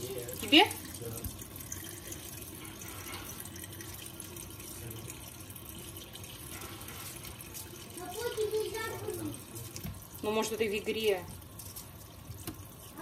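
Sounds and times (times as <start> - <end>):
kitchen tap running: 0.0 - 13.0.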